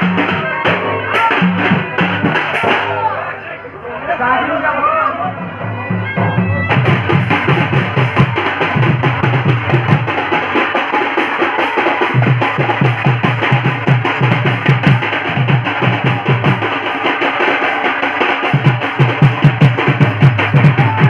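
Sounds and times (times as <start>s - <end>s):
barrel drums beaten fast: 0.0s - 3.3s, 5.2s - 21.0s
dense higher percussion layer: 0.0s - 21.0s.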